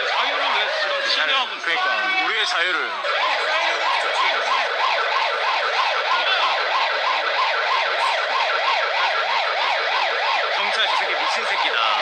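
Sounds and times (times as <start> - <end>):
police siren yelping: 0.0 - 12.0.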